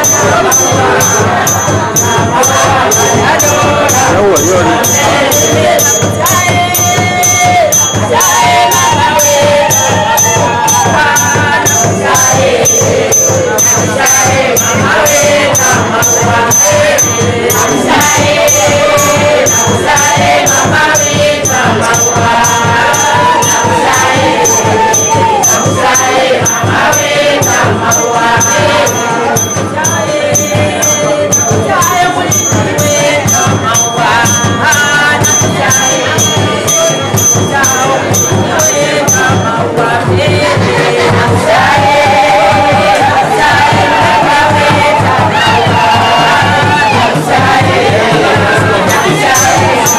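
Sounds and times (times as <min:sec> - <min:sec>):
congregation singing: 0:00.0 - 0:49.9
hand percussion beat: 0:00.0 - 0:49.9.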